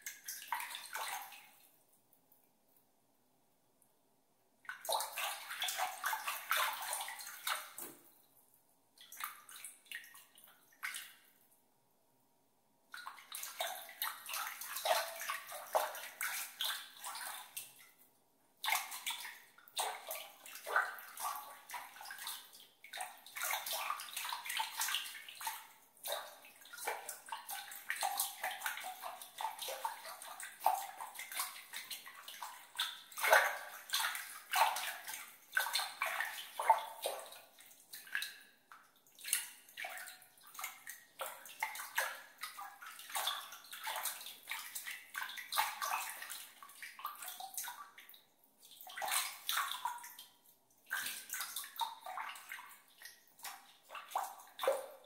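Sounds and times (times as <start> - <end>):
water splashing and sloshing by hand: 0.0 - 2.4, 4.6 - 11.7, 12.9 - 55.0.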